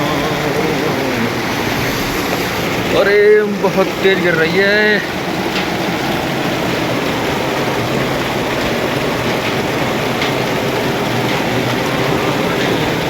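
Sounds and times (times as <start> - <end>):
hailstones ticking: 0.0 - 13.0
heavy rain roaring: 0.0 - 13.0.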